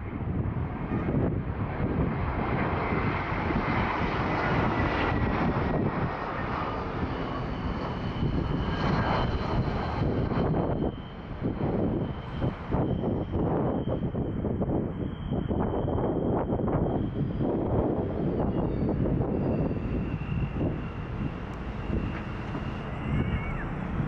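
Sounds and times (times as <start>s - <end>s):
aircraft engine rush: 0.0s - 24.0s
faint high whine: 3.8s - 24.0s.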